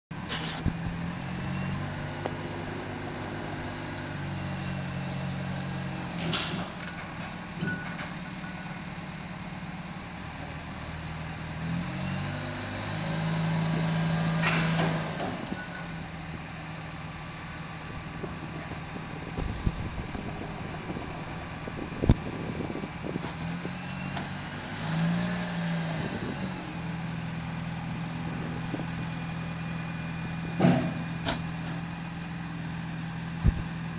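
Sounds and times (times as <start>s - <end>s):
heavy diesel engines running: 0.1s - 33.9s.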